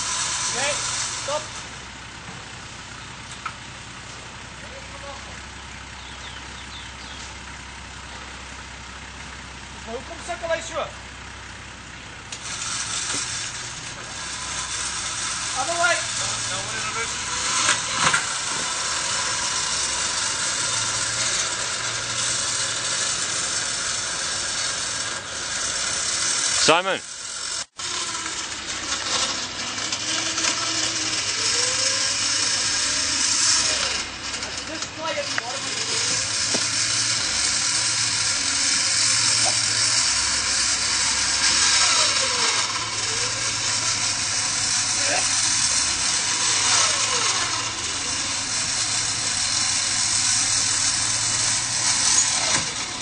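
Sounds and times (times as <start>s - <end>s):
electric winch whirring: 0.0s - 53.0s
vehicle engine running: 0.0s - 53.0s.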